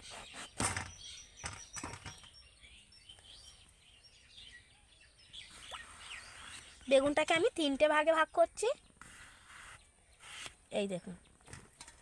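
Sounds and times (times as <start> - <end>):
faint bird chirps: 0.0 - 11.6.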